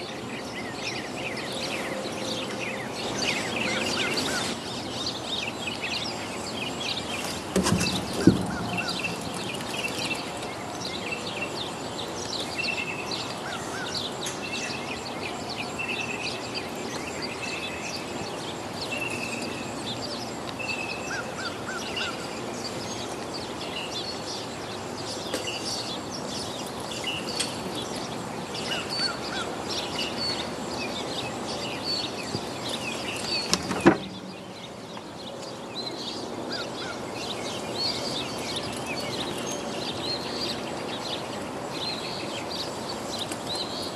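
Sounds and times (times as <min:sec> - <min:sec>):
small birds chirping and singing: 0:00.0 - 0:43.9.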